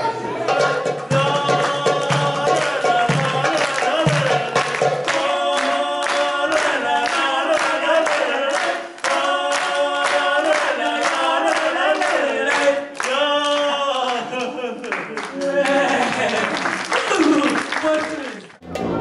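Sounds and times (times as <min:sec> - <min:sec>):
voices singing: 0:00.0 - 0:16.5
rhythmic hand clapping: 0:01.0 - 0:18.9.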